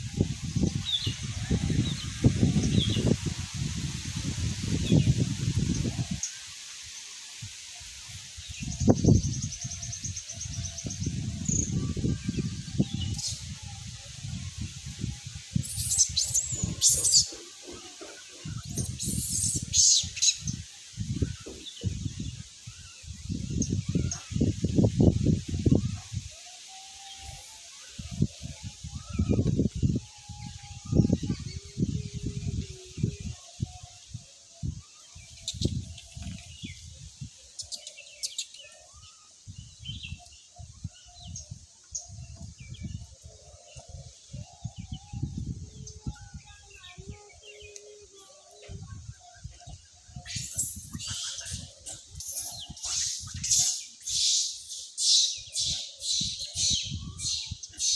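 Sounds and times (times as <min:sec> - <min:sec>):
small birds chirping: 0:04.3 - 0:57.9.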